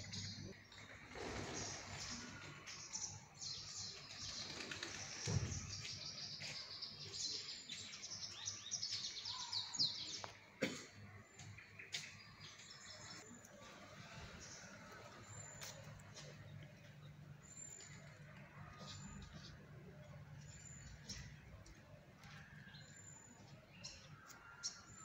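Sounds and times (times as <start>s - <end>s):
small birds chirping and twittering: 0.0s - 25.0s.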